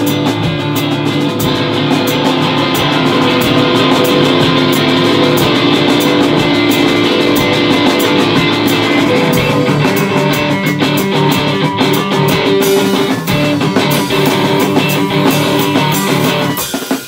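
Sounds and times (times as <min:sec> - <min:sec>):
drums with cymbal hits: 0:00.0 - 0:17.0
electric guitar chords: 0:00.0 - 0:17.0.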